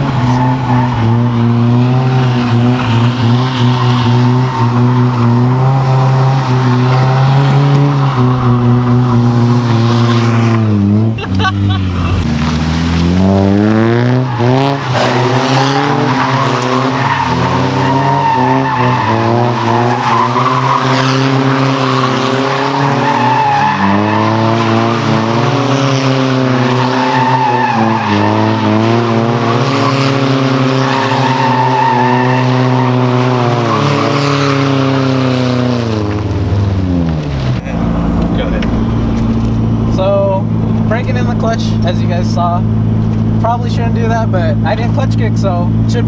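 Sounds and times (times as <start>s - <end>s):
tyres screeching: 0.0s - 44.1s
car engines revving: 0.0s - 46.0s.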